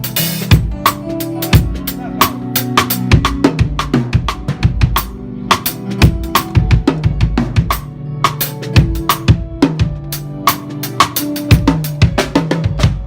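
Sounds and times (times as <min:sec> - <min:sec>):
drum kit playing a beat: 0:00.0 - 0:13.0.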